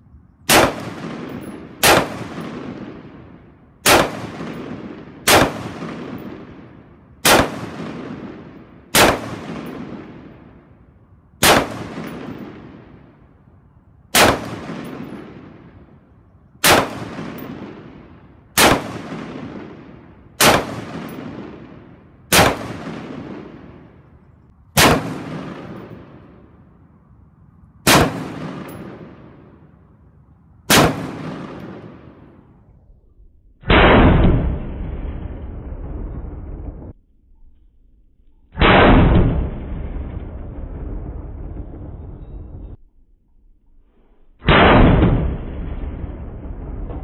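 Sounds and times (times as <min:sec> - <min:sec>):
rifle shots with long echo: 0:00.4 - 0:32.9, 0:33.6 - 0:37.0, 0:38.6 - 0:42.8, 0:44.4 - 0:47.0.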